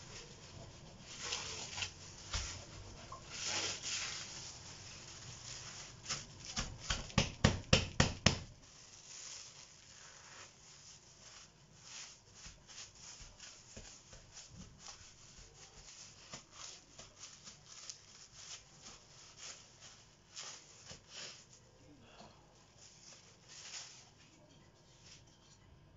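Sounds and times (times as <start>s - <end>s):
plastic bag crinkling: 0.0s - 7.7s, 8.3s - 21.8s, 22.5s - 25.2s.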